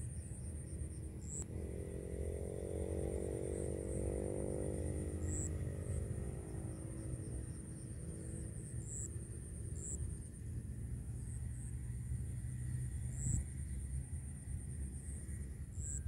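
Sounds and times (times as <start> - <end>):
distant motor engine humming: 0.0 - 16.0.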